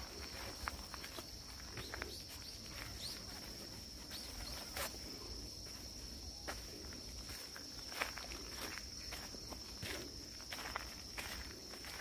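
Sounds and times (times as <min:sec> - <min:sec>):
footsteps on dirt trail: 0:00.0 - 0:12.0
high-pitched insect trill: 0:00.0 - 0:12.0.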